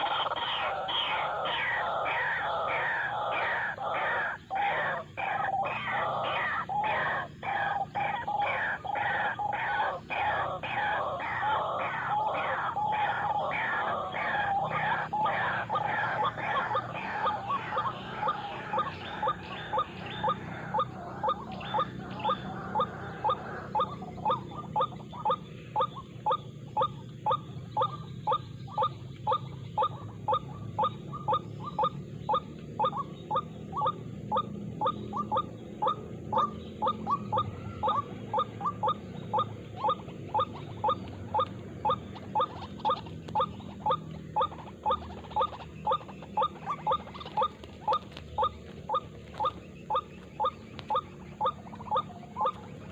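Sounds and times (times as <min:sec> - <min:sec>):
waterhen calling: 0:00.0 - 0:52.9.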